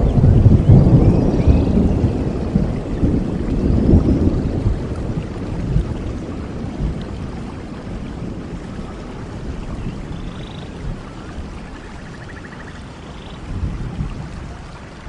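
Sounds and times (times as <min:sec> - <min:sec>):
rumble of thunder: 0:00.0 - 0:12.8, 0:13.4 - 0:15.0
steady rainfall: 0:00.0 - 0:15.0.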